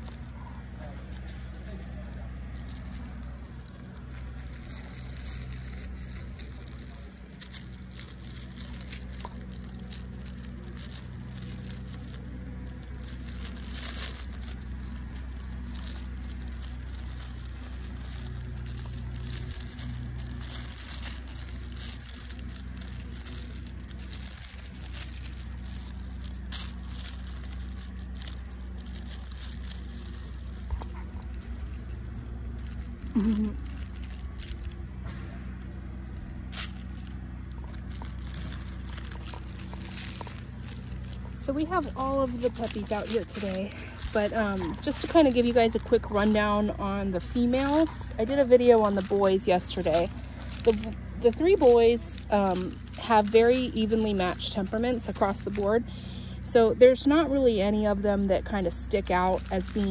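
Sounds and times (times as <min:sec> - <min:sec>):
rustling and crunching: 0:00.0 - 0:59.9
steady low hum: 0:00.0 - 0:59.9.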